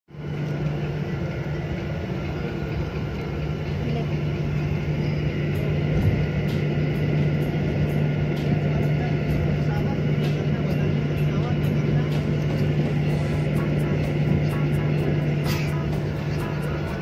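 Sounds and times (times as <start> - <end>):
jet engine drone in cabin: 0.1 - 17.0.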